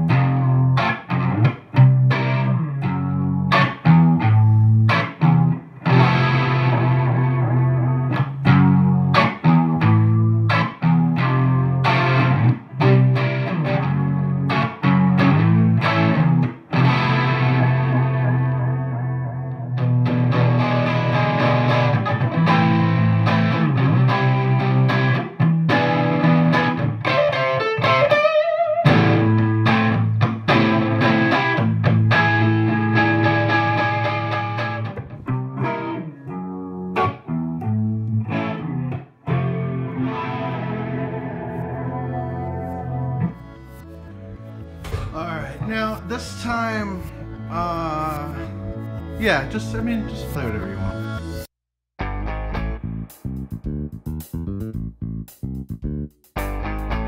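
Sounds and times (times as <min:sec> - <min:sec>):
electric guitar with chorus: 0:00.0 - 0:53.1.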